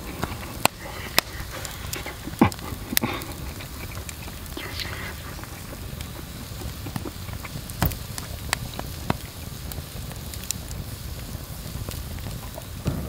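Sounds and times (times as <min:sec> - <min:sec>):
sharp pops: 0:00.0 - 0:13.0
wood fire crackling: 0:00.0 - 0:13.0.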